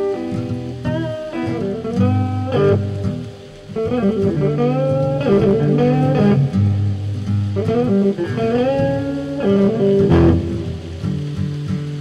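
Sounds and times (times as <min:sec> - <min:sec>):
lead guitar bending notes: 0:00.0 - 0:12.0
rhythm guitar: 0:00.0 - 0:12.0.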